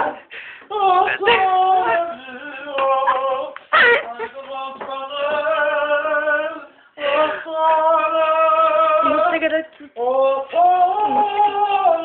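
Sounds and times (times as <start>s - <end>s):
man singing in a high voice: 0.0s - 12.0s.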